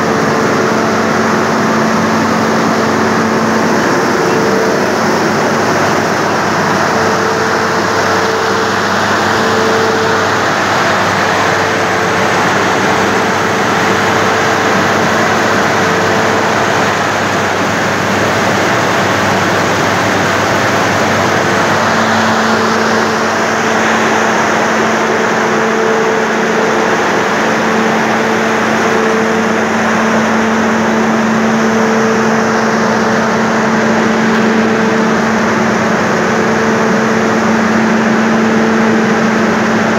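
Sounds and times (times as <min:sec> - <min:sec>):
machinery whirring: 0:00.0 - 0:39.9
steady hum: 0:00.0 - 0:39.9.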